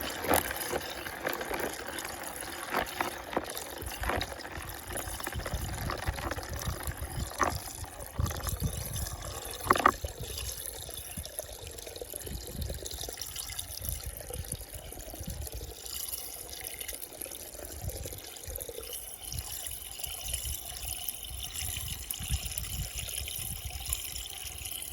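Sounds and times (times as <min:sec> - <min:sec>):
water draining and gurgling: 0:00.0 - 0:24.9.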